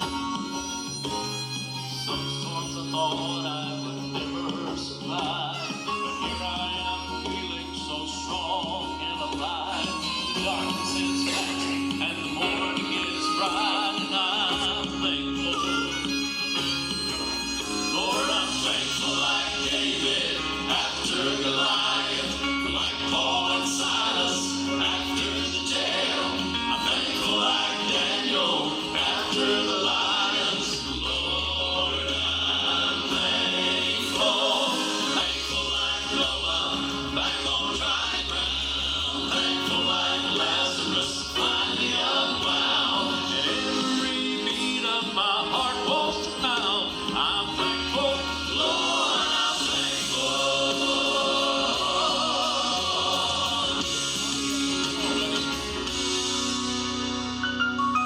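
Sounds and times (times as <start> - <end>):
instrumental backing: 0.0 - 58.0
group singing gospel in harmony: 6.2 - 56.8.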